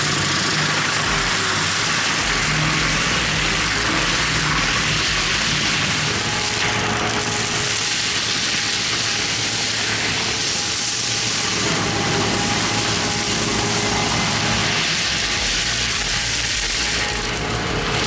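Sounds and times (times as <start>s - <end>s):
heavy machine engine running: 0.0s - 18.0s.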